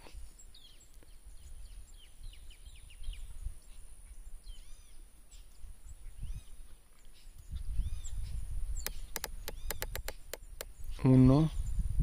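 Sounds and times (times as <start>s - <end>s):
small birds chirping: 0.0s - 12.0s
wind rumble on microphone: 0.0s - 12.0s.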